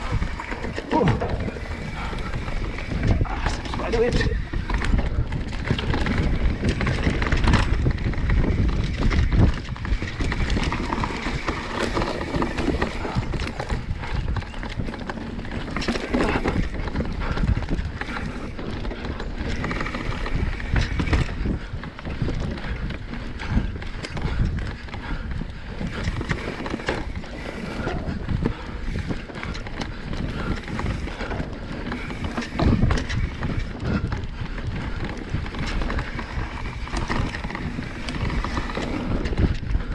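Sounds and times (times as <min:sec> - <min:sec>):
bike clattering over rocks: 0:00.0 - 0:39.6
wind buffeting microphone: 0:00.0 - 0:39.9.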